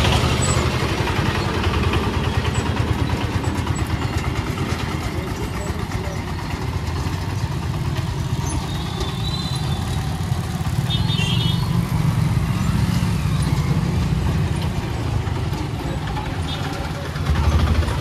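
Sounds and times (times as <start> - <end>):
small engines rumbling: 0.0 - 18.0.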